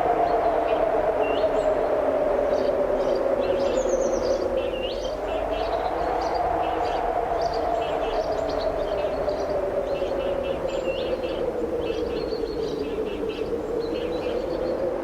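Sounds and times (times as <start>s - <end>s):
strong wind through trees: 0.0s - 15.0s.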